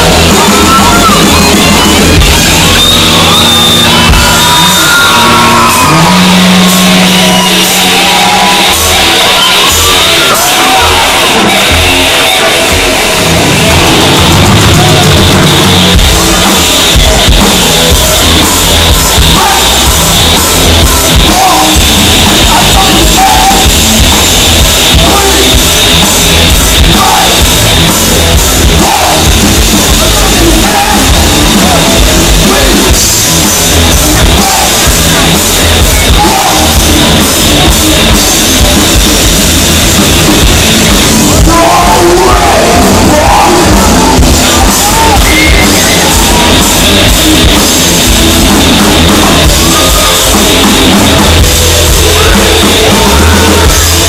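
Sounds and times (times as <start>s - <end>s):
person singing: 0.0s - 39.3s, 40.4s - 54.0s
drum kit: 0.0s - 54.0s
electric guitars: 0.0s - 54.0s.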